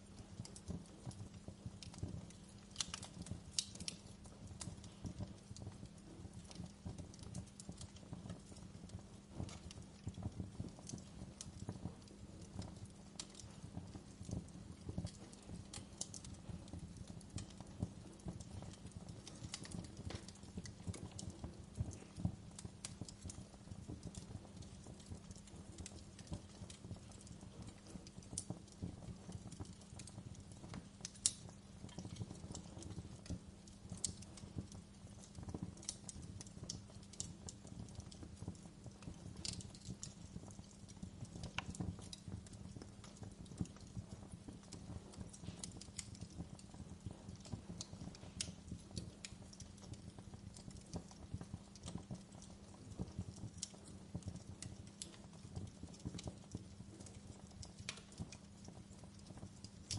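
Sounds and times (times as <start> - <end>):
fireplace crackling and popping: 0.0 - 59.9.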